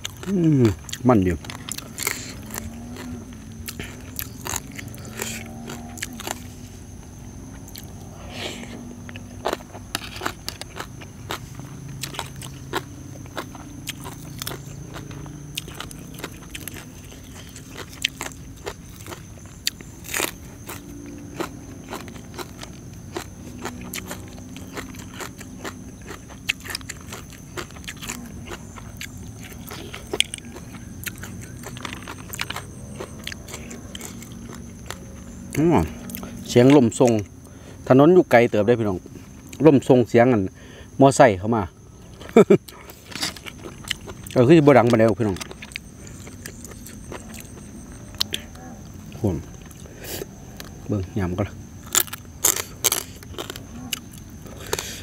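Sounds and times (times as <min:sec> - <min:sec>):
person chewing crunchy food: 0:00.0 - 0:38.4, 0:39.0 - 0:39.7, 0:41.9 - 0:51.0, 0:51.6 - 0:55.0.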